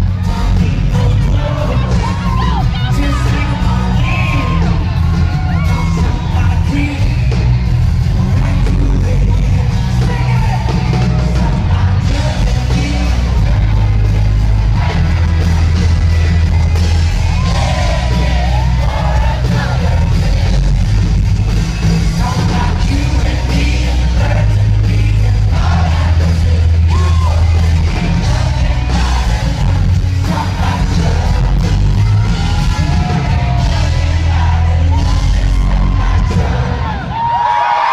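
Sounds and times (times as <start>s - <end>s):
man singing lead vocal: 0.0s - 15.5s, 17.4s - 21.1s, 21.8s - 37.4s
heavy booming bass: 0.0s - 37.2s
live country band playing: 0.0s - 37.9s.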